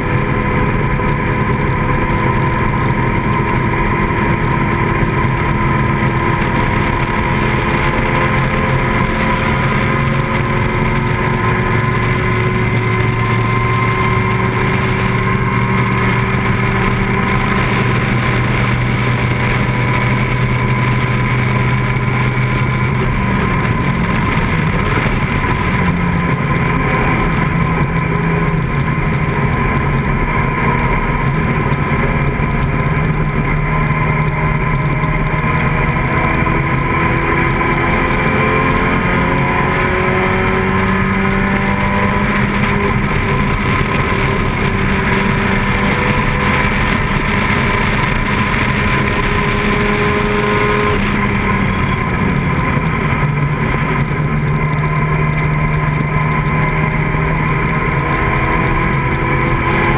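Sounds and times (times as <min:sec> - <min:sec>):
race car engine running hard: 0:00.0 - 0:59.9
wind noise: 0:00.0 - 0:59.9.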